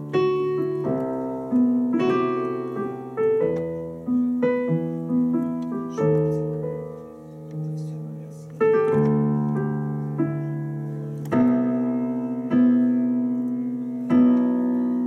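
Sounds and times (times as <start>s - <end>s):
digital piano chords and melody: 0.0s - 15.0s.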